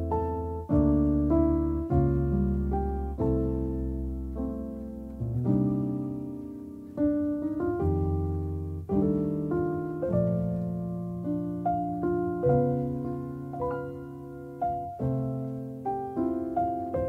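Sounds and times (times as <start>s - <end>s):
piano playing slow chords: 0.0s - 17.0s.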